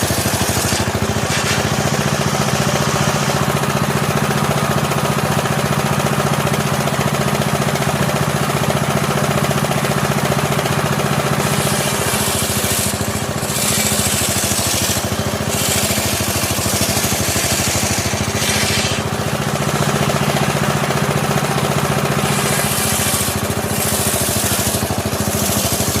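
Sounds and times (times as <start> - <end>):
saw blade cutting wood: 0.0 - 26.0
saw machine humming: 0.0 - 26.0.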